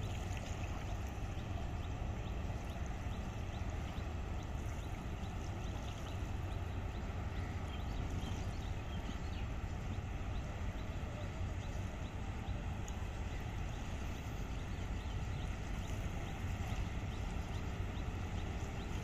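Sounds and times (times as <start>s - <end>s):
river background rumble: 0.0s - 19.0s.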